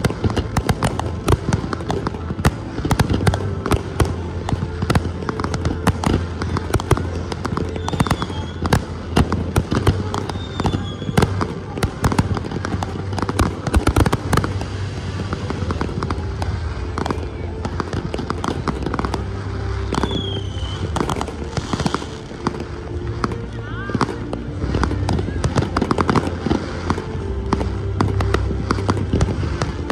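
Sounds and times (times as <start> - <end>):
fireworks bursting: 0.0 - 29.9
low rumble: 0.0 - 29.9.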